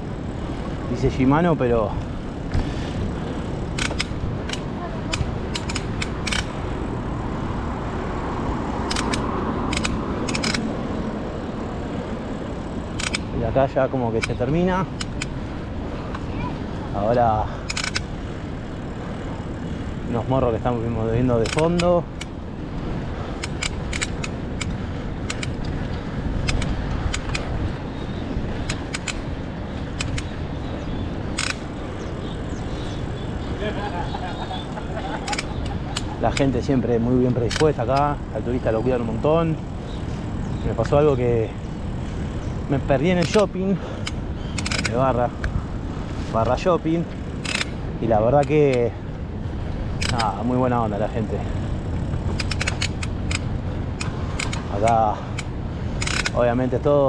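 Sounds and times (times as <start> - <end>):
bicycle gears clicking: 0.0 - 57.0
bike rolling rumble: 0.0 - 57.0.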